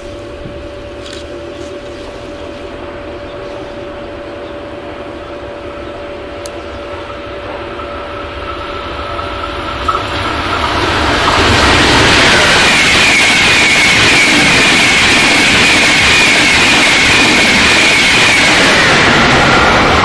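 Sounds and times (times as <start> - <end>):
steady hum: 0.0 - 20.0
train wheels rushing on rails: 0.0 - 20.0.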